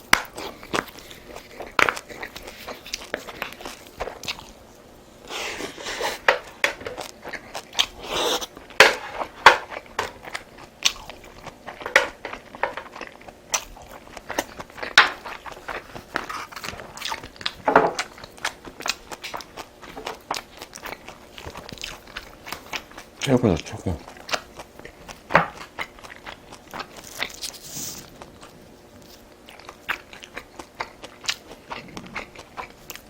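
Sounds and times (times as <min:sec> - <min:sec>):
chewing and crunching: 0:00.0 - 0:33.0.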